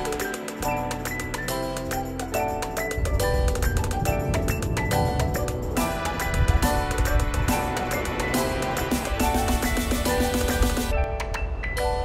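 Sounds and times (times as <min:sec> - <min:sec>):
steady beat: 0:00.0 - 0:10.9.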